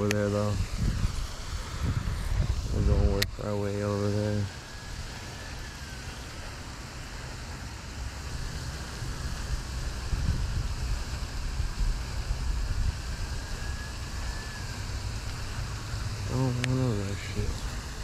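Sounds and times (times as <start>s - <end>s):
wind buffeting microphone: 0.0s - 6.9s, 8.1s - 18.0s.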